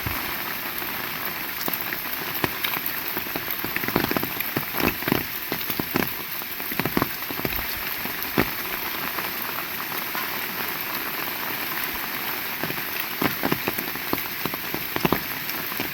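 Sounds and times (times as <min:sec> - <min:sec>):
heavy rain falling: 0:00.0 - 0:15.9.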